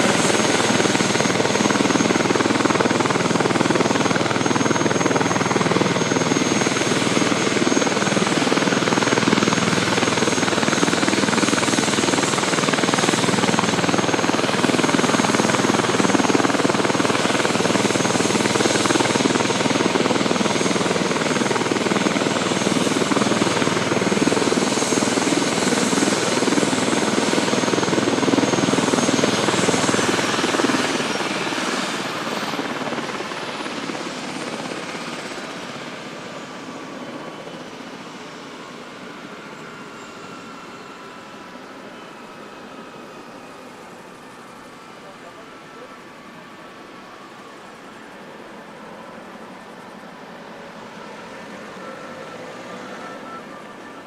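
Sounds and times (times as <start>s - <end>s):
helicopter rotor and turbine noise: 0.0s - 54.0s
high turbine whine: 0.0s - 54.0s.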